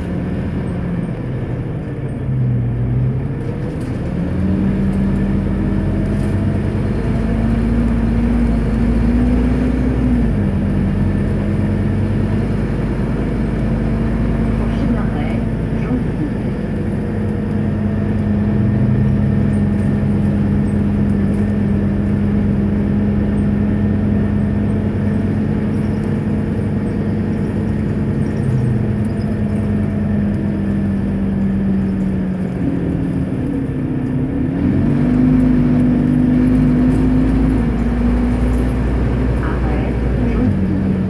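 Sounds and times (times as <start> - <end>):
bus engine humming: 0.0 - 41.0
road noise: 0.0 - 41.0.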